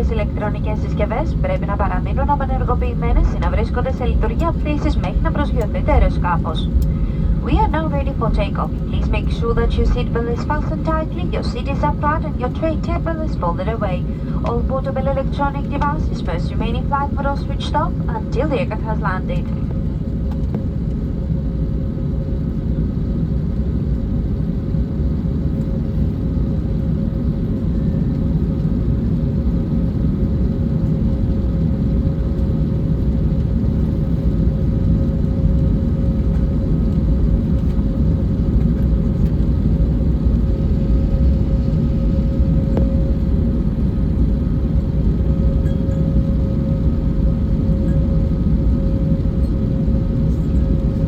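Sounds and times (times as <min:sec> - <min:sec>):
aircraft engine rumble with whine: 0:00.0 - 0:51.0.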